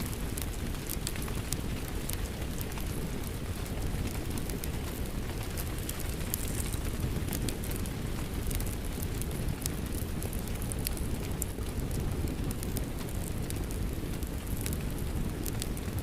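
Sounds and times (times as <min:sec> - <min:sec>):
fireplace crackling: 0:00.0 - 0:16.0
rain rumbling: 0:00.0 - 0:16.0.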